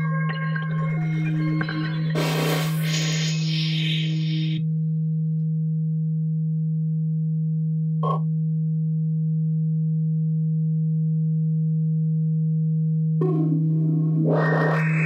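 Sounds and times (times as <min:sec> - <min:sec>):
low electronic sine tone: 0:00.0 - 0:15.0.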